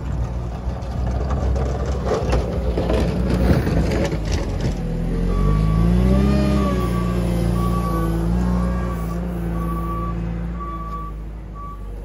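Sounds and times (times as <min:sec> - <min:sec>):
diesel engine working and revving: 0:00.0 - 0:12.0.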